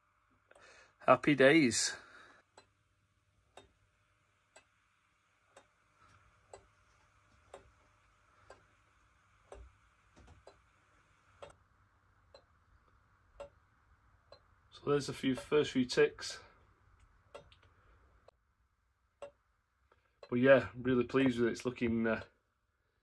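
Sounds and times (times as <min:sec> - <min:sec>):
clock ticking faintly: 0:02.1 - 0:18.4, 0:19.2 - 0:22.4.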